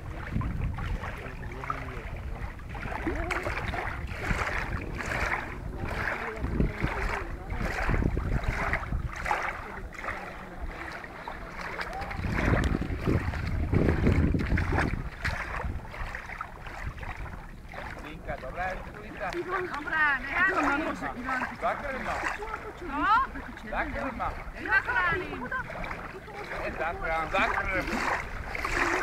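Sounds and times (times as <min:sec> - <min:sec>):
small waves lapping shore: 0:00.0 - 0:29.0
wind buffeting microphone: 0:00.0 - 0:29.0.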